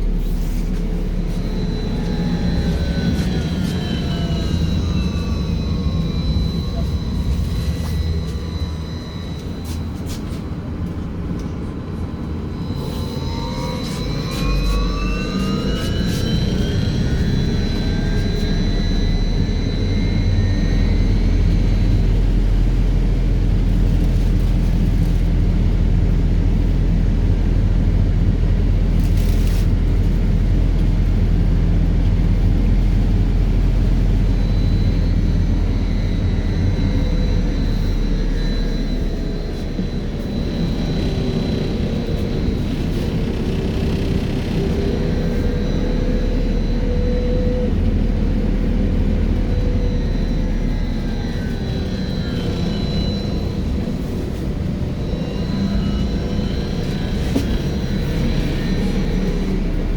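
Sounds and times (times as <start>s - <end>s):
electric drive whine: 0.0s - 59.9s
heavy road rumble: 0.0s - 59.9s.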